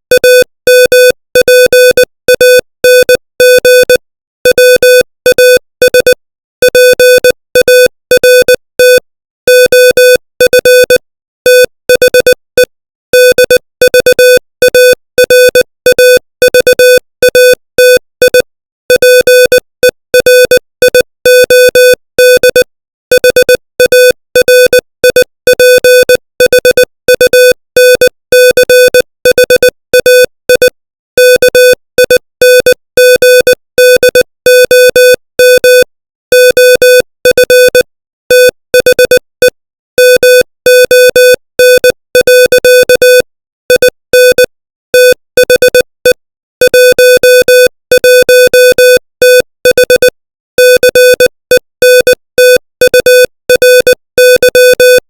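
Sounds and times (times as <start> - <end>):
morse code beeps: 0.1 - 55.0.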